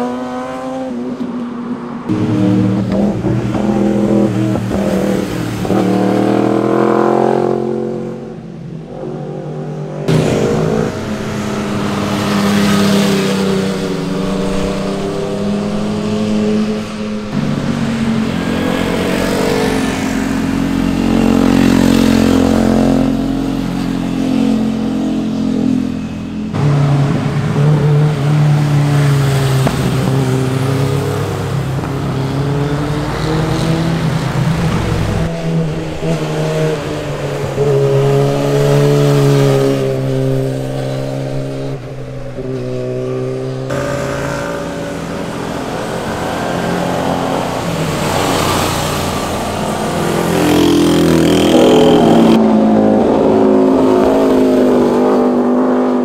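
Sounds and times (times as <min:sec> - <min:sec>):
sport motorcycle engines revving: 0:00.0 - 0:56.0.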